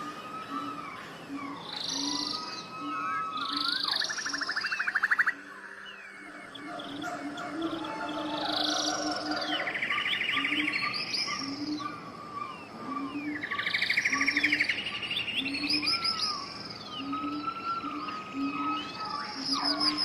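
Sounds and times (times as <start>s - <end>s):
songbirds singing: 0.0s - 20.0s.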